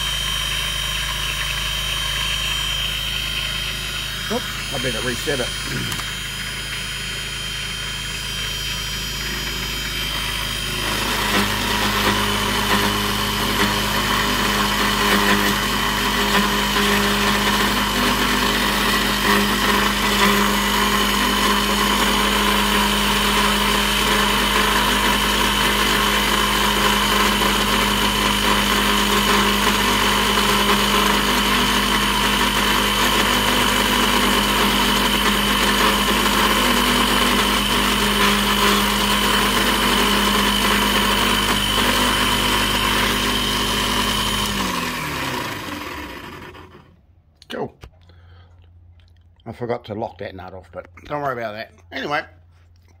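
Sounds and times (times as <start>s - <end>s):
lathe tool cutting metal: 0.0s - 46.9s
lathe motor whine: 0.0s - 47.0s.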